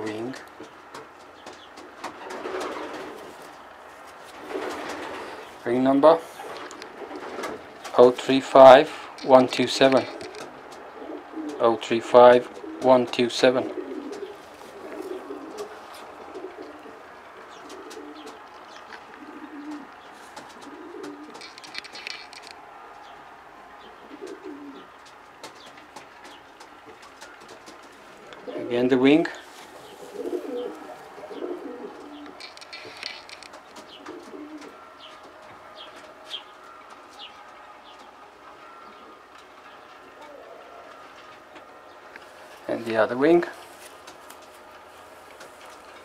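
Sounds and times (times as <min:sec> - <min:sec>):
pigeons cooing: 0:00.0 - 0:08.0, 0:09.0 - 0:23.2, 0:23.8 - 0:42.6.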